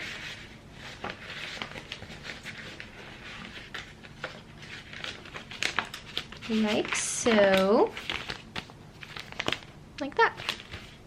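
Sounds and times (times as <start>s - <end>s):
paper and card rustling: 0.0s - 11.0s.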